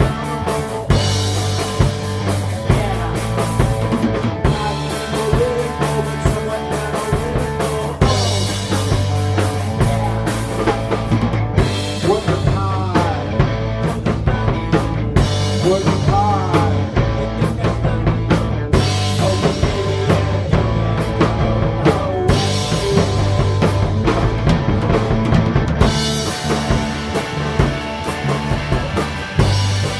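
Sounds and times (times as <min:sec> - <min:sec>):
drum kit bass drum and snare: 0:00.0 - 0:29.9
punk rock band playing: 0:00.0 - 0:29.9.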